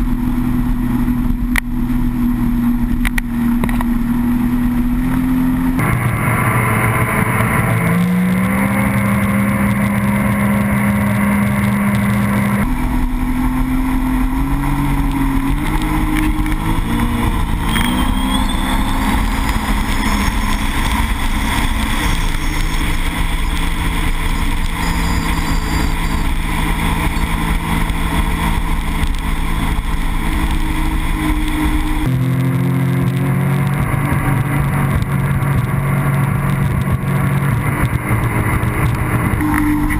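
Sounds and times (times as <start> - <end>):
personal watercraft engine: 0.0 - 39.9
rushing water and spray: 0.3 - 39.9.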